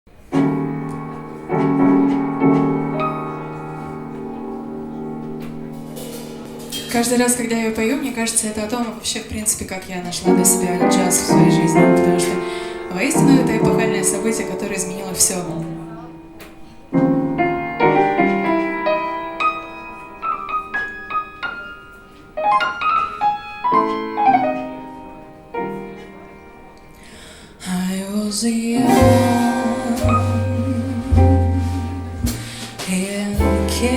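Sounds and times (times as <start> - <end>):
piano playing slow chords: 0.1 - 8.1, 10.2 - 27.8, 28.6 - 33.9.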